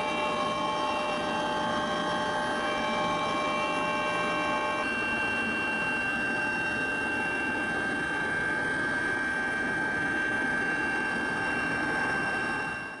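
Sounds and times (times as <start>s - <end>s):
engine drone with high whine: 0.0s - 13.0s.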